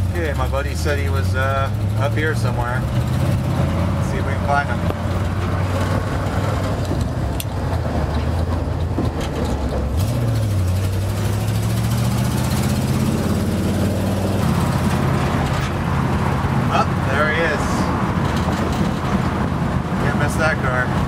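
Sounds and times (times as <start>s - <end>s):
car engine from inside cabin: 0.0s - 21.0s
road noise: 0.0s - 21.0s.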